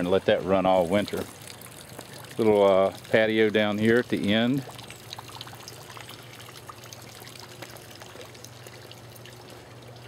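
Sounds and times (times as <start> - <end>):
small water splashes: 0.0 - 10.0
water trickling over rocks: 0.0 - 10.0.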